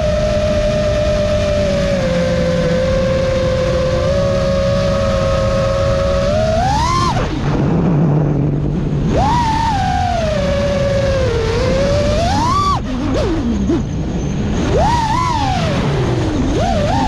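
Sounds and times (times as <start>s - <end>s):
quadcopter motors whining: 0.0s - 7.7s, 9.0s - 17.0s
low rumble: 0.0s - 17.0s.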